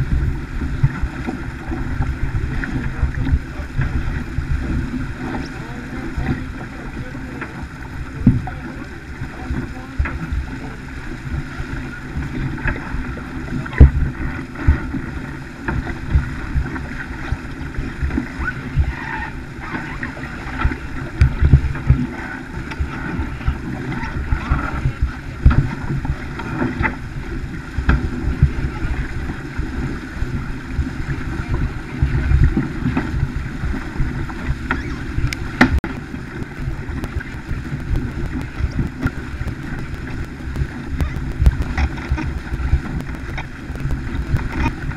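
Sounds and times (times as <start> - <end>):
water splashing along hull: 0.0 - 44.9
wind buffeting microphone: 0.0 - 44.9.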